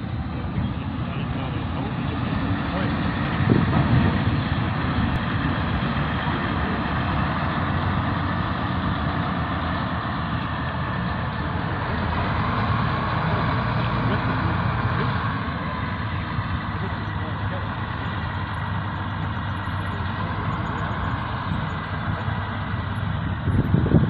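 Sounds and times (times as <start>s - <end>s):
locomotive diesel engine droning: 0.0s - 24.0s.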